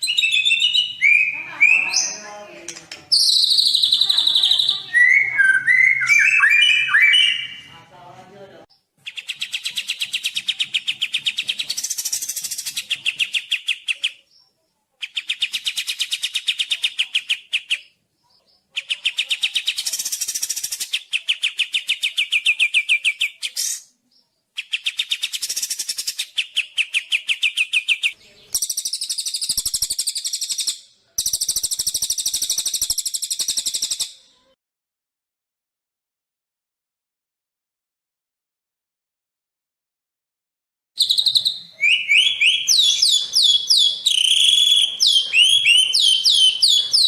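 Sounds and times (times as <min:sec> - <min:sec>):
songbird trills: 0:00.0 - 0:02.3, 0:02.9 - 0:07.7, 0:08.7 - 0:34.5, 0:41.0 - 0:47.0.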